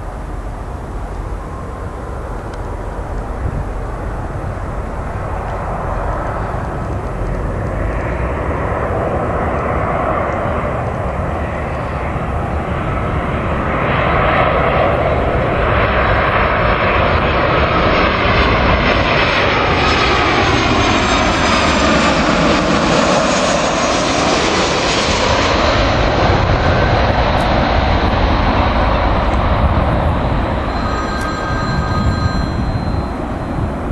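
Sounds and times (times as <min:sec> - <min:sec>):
jet engine whine: 0:00.0 - 0:33.9.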